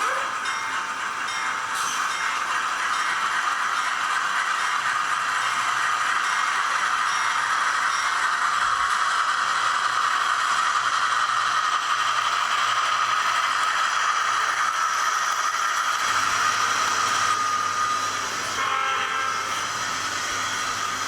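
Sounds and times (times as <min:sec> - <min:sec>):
model locomotive rattling: 0:00.0 - 0:21.0.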